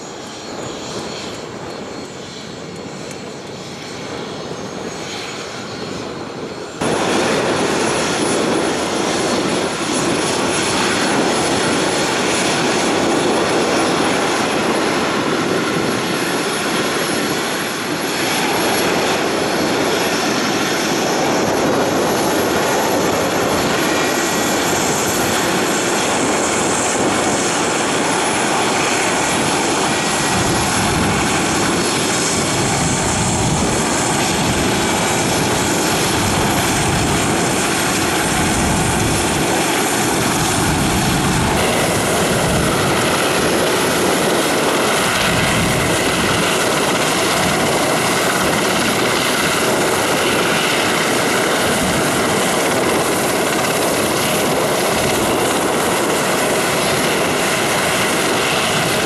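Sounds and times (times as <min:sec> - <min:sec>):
helicopter engines whining: 0:00.0 - 0:59.0.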